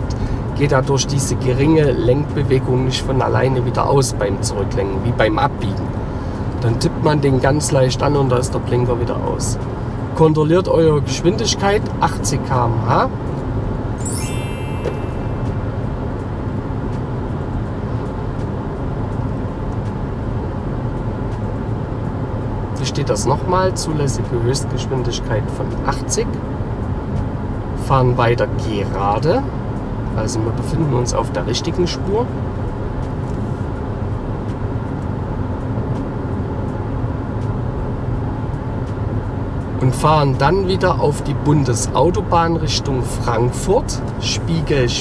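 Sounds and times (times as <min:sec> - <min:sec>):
car engine and tyre rumble: 0:00.0 - 0:14.0, 0:15.7 - 0:45.0
in-cabin road noise: 0:00.0 - 0:14.0, 0:15.2 - 0:45.0.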